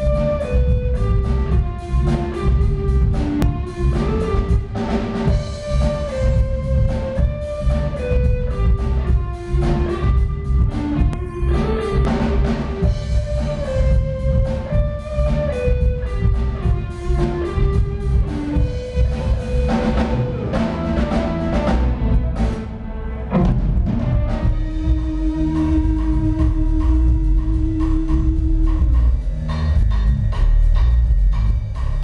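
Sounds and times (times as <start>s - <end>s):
electric guitar: 0.0s - 29.9s
drum kit beat: 0.0s - 32.0s
electric bass: 0.0s - 32.0s.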